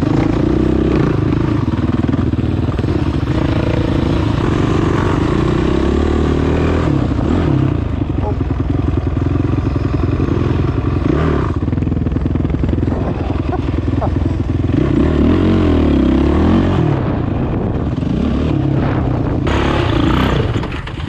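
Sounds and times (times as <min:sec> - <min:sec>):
off-road motorcycle engine revving: 0:00.0 - 0:21.0.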